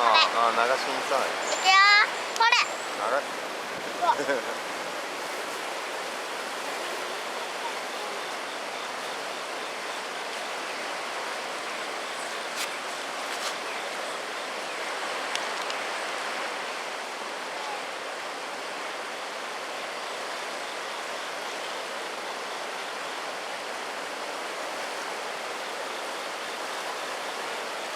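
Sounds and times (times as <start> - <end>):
flooded river rushing: 0.0 - 27.9.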